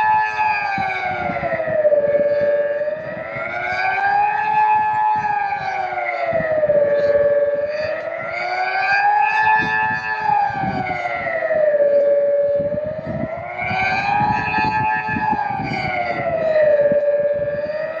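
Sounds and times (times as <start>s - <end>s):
civil defence siren wailing: 0.0s - 18.0s.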